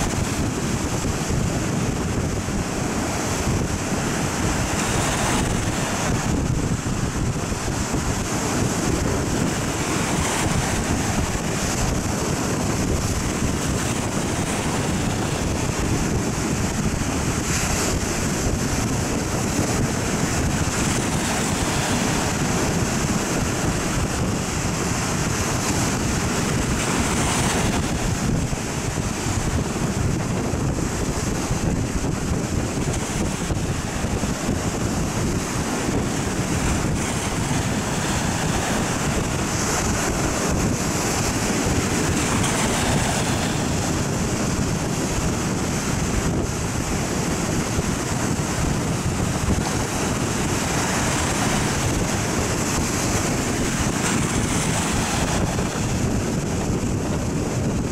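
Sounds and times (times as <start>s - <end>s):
heavy surf breaking: 0.0s - 57.9s
wind buffeting microphone: 0.0s - 57.9s.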